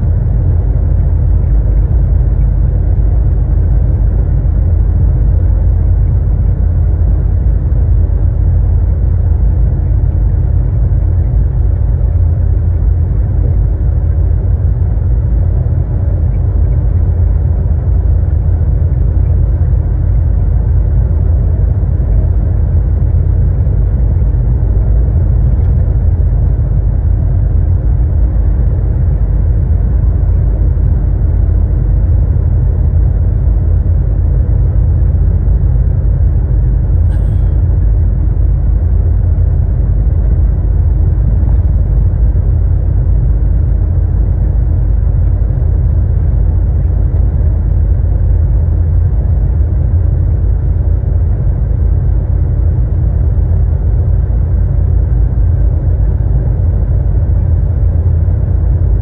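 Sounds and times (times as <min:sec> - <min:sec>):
road rumble: 0:00.0 - 0:59.0
truck engine drone: 0:00.0 - 0:59.0.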